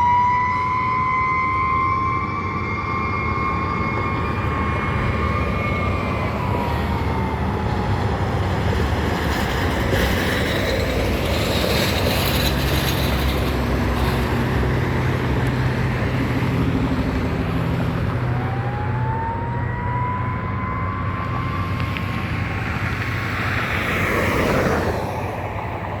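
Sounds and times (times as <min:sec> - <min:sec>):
fire engine drone: 0:00.0 - 0:26.0
fire engine siren wailing: 0:00.0 - 0:26.0
road noise: 0:00.0 - 0:26.0.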